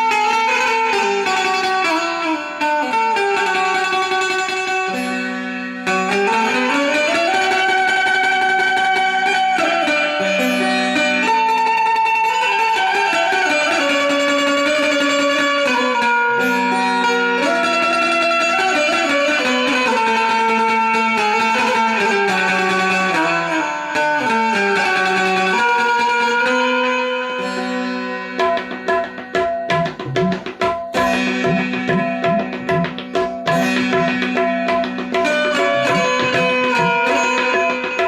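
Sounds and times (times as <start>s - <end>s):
banjo melody: 0.0s - 38.0s
tabla strokes: 0.0s - 38.0s.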